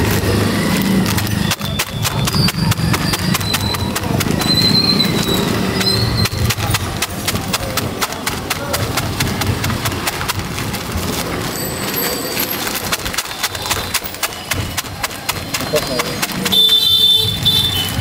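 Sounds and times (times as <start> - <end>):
fried snacks crunching: 0.0 - 18.0
plastic bag crinkling: 0.0 - 18.0.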